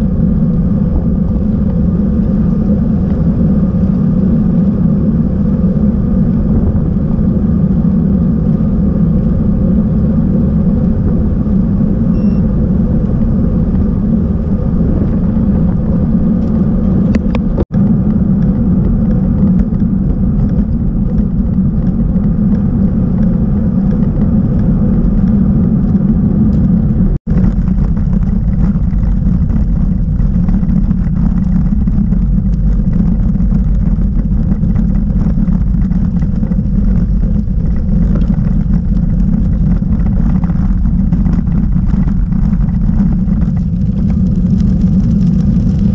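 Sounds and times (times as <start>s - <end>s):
road noise: 0.0s - 45.9s
wind rush: 0.0s - 45.9s.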